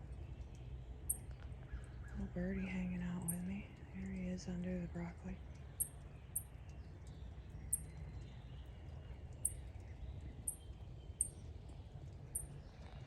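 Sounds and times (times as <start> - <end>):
low steady background rumble: 0.0 - 13.0.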